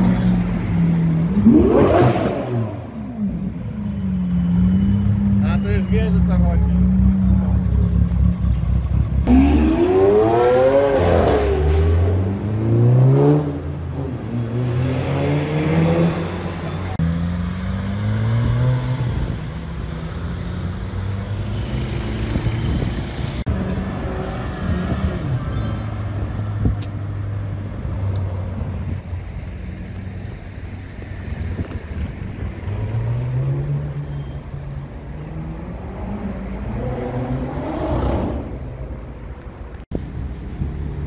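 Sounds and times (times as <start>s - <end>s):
sports car engines revving: 0.0s - 39.8s
traffic: 0.0s - 41.0s.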